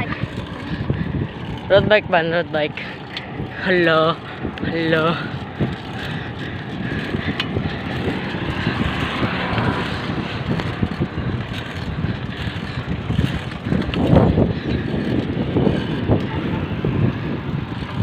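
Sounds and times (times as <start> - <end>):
bicycle road rumble: 0.0 - 18.0
wind buffeting microphone: 0.0 - 18.0.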